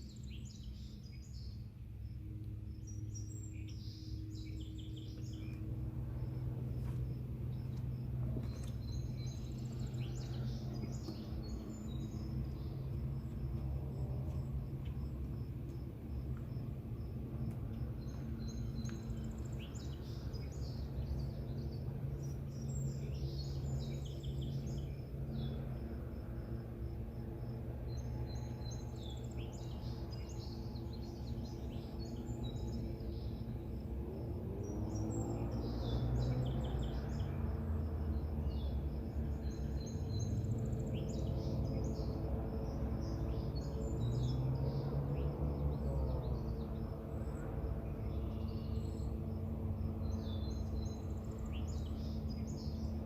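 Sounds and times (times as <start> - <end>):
small birds chirping: 0.0 - 26.0, 27.4 - 53.0
low hum with gliding pitches: 0.0 - 53.0.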